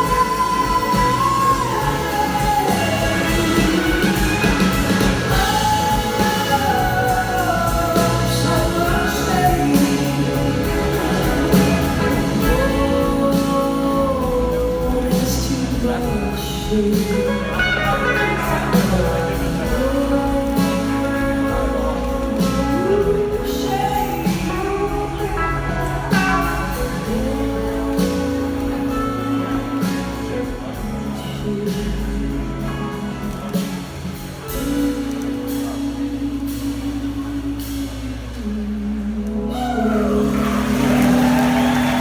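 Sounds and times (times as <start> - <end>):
steady drum beat: 0.0 - 38.5, 39.5 - 42.0
blues-rock band playing: 0.0 - 38.6, 39.2 - 42.0.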